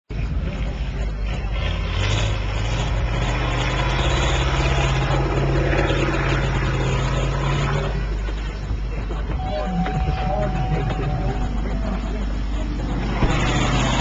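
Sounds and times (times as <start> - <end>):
truck engine running at low revs: 0.1 - 14.0.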